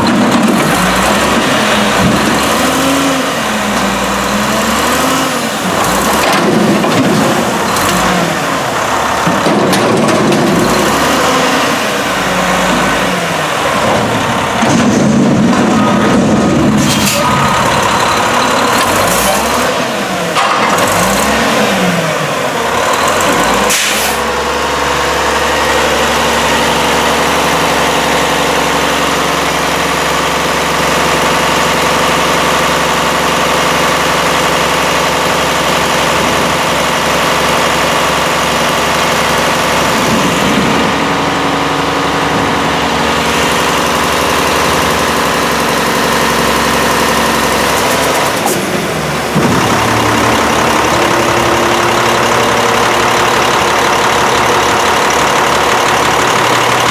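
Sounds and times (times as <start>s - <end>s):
garbage truck engine revving: 0.0s - 56.9s.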